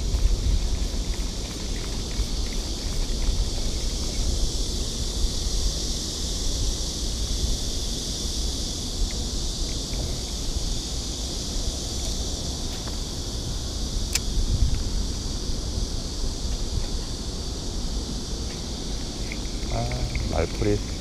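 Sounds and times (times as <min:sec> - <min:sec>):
steady high outdoor hiss: 0:00.0 - 0:21.0
wind rumbling on microphone: 0:00.0 - 0:21.0.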